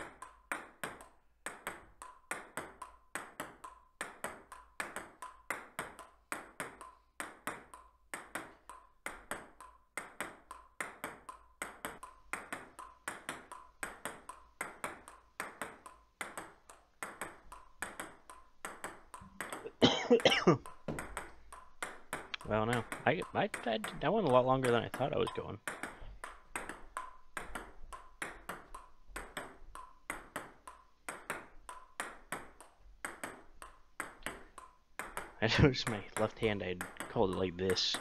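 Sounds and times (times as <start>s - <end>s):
table tennis ball clicks: 0.0s - 19.7s, 20.6s - 38.0s.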